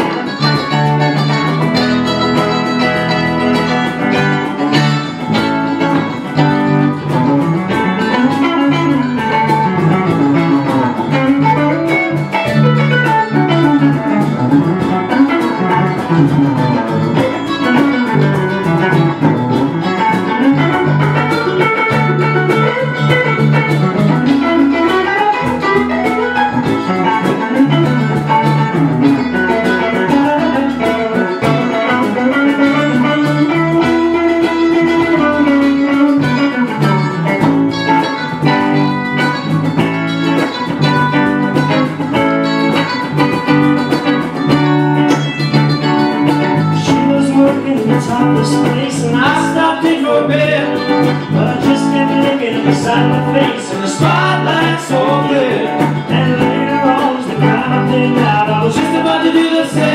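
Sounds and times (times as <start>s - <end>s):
cajon beat: 0.0s - 59.9s
electric guitar: 0.0s - 59.9s
repeating bass line: 0.0s - 59.9s.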